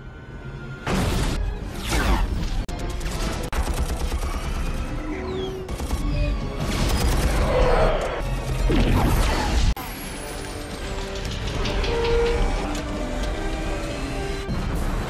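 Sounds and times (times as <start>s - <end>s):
film score music: 0.0s - 15.0s.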